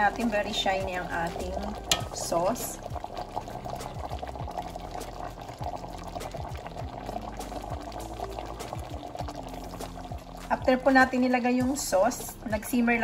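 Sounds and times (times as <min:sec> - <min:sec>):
thick sauce bubbling and popping: 0:00.0 - 0:12.7.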